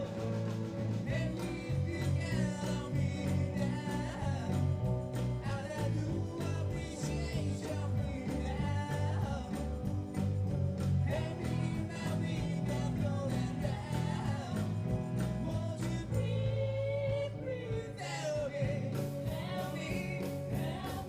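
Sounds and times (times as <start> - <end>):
person singing: 0.0 - 9.8, 11.1 - 21.0
bass: 0.0 - 21.0
guitar: 0.0 - 21.0
steady drum beat: 0.0 - 21.0.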